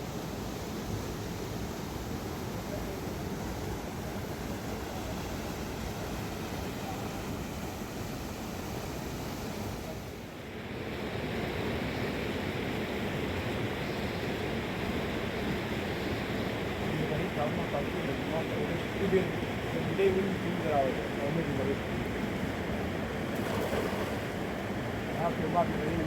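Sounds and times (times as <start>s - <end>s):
rushing river water: 0.0s - 26.0s.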